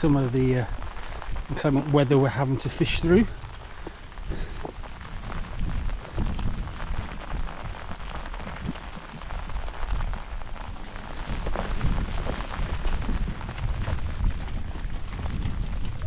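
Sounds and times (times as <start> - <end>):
rain pattering: 0.0 - 16.0
wind gusting on microphone: 0.1 - 16.0.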